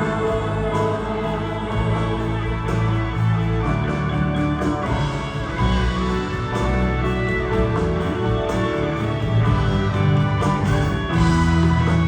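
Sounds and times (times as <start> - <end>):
guitar: 0.0 - 12.0
live band playing pop ballad: 0.0 - 12.0.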